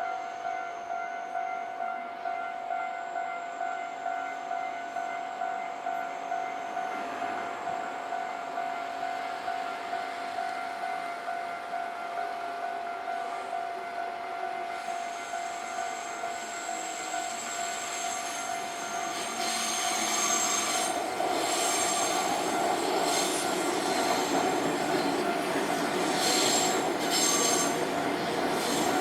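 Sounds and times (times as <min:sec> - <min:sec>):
level crossing warning bell: 0:00.0 - 0:29.0
train rolling noise: 0:00.0 - 0:29.0
train wheels squealing on rails: 0:00.0 - 0:29.0.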